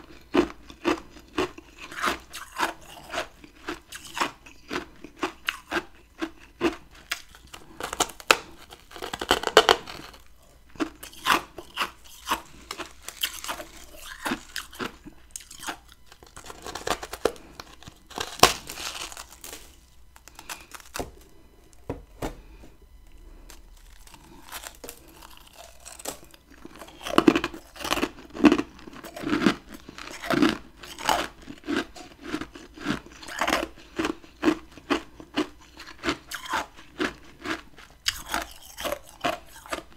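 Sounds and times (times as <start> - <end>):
chewing crunchy frost: 0.0 - 21.8, 22.4 - 39.9.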